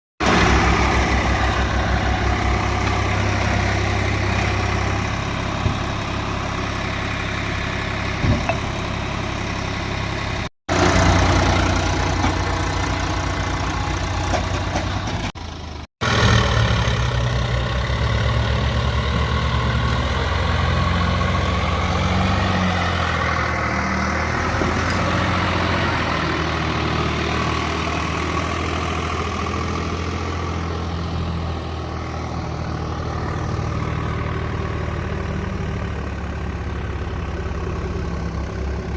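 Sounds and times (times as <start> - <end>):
diesel engine running: 0.2 - 38.9.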